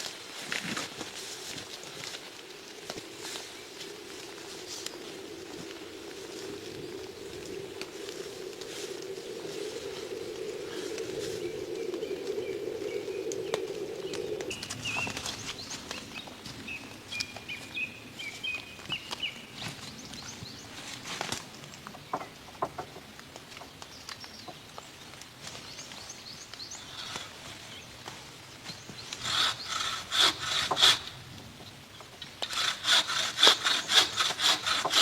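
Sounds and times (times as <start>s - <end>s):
small birds chirping: 2.5s - 21.0s, 21.6s - 32.8s.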